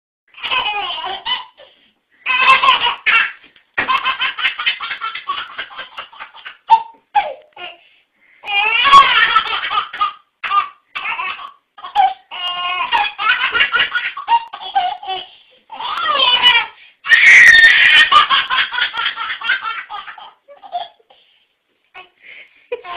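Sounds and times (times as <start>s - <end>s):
baby laughing: 0.4s - 7.8s, 8.5s - 21.2s.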